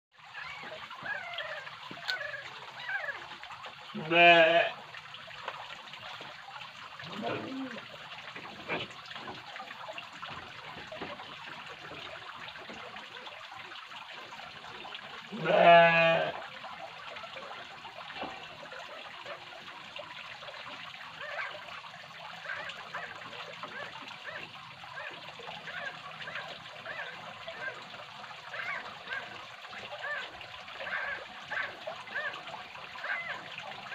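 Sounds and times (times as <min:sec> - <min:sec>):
water trickling: 0:00.1 - 0:33.9.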